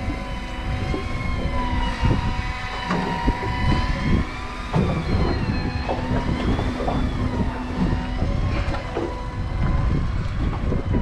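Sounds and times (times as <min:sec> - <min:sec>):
fishing reel motor whine: 0:00.0 - 0:11.0
low rumble: 0:00.0 - 0:11.0.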